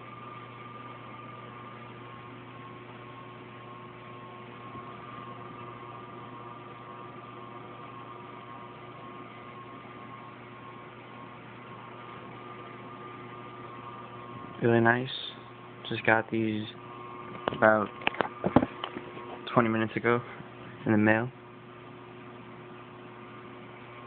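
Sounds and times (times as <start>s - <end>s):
room hum and hiss: 0.0s - 24.0s.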